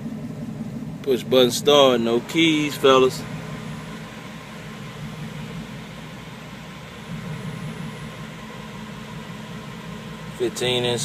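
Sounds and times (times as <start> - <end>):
car engine idling: 0.0 - 11.0
hiss of running noise: 0.0 - 11.0.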